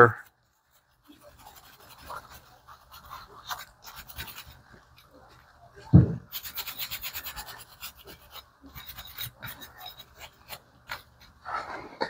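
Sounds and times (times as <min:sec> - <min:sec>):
brush scrubbing metal: 0:00.1 - 0:05.2, 0:06.3 - 0:11.4.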